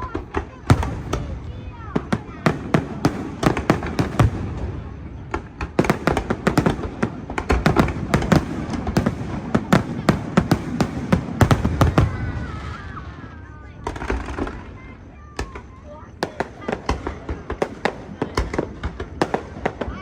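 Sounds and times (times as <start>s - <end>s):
fireworks booms and crackling bangs: 0.0s - 20.0s.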